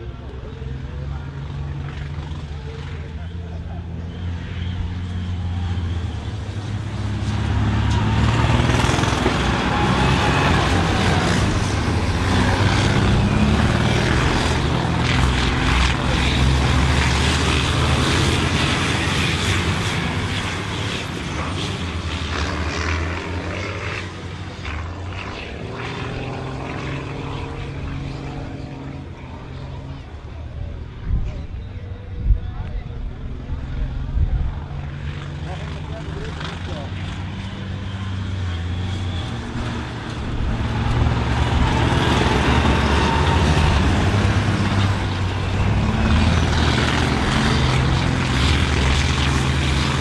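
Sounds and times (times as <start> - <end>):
diesel engine running hard: 0.0 - 50.0.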